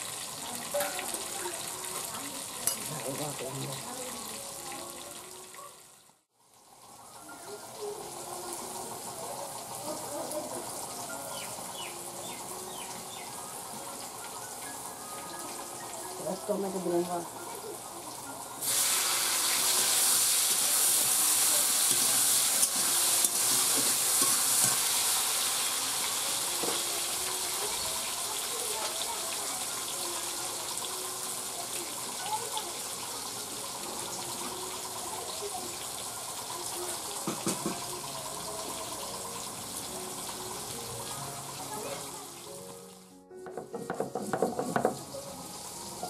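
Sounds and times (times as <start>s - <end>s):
vegetables sizzling in hot oil: 0.0s - 43.1s, 44.2s - 46.0s.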